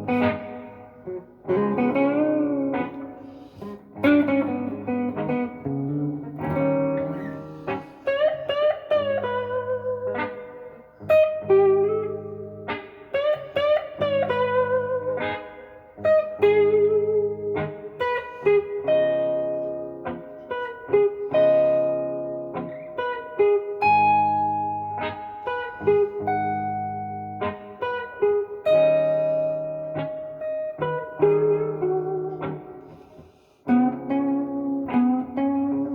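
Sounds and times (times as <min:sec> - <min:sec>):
electric guitar blues lead: 0:00.0 - 0:35.9.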